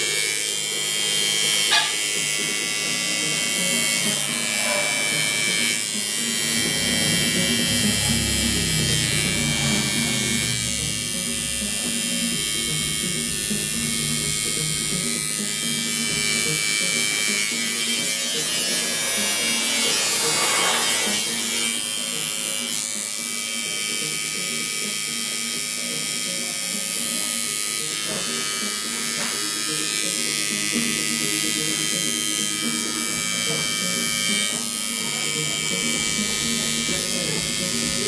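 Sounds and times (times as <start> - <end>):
tattoo machine buzzing: 0.0 - 38.0.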